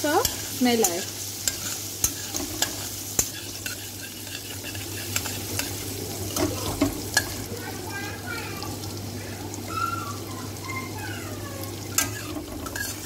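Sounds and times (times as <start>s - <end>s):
ginger and garlic sizzling in oil: 0.0s - 13.0s.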